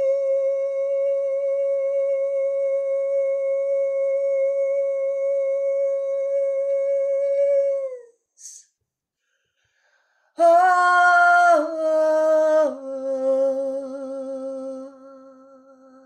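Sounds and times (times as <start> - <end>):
woman singing: 0.0 - 8.1, 10.4 - 16.0.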